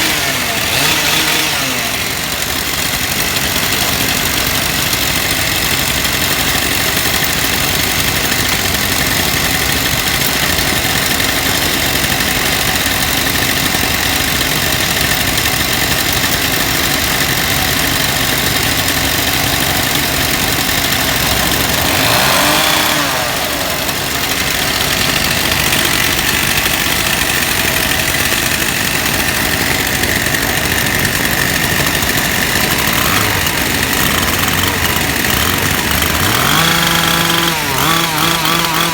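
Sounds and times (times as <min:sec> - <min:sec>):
power cutter engine idling: 0:00.0 - 0:38.9.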